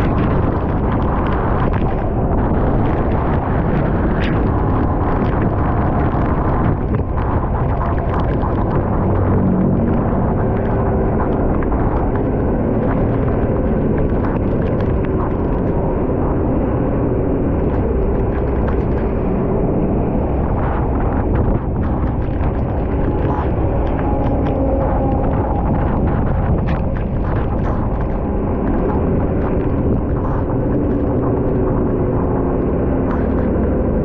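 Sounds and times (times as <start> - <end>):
engine hum: 0.0 - 34.0
rain ticking on camera: 0.0 - 34.0
wind rushing on microphone: 0.0 - 34.0.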